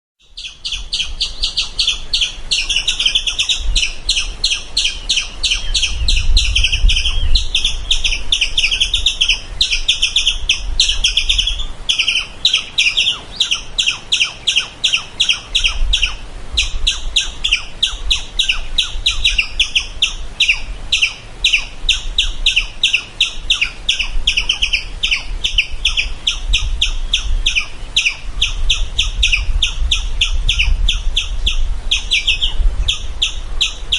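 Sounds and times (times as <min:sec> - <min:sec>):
squirrel chirping: 0:00.2 - 0:33.9.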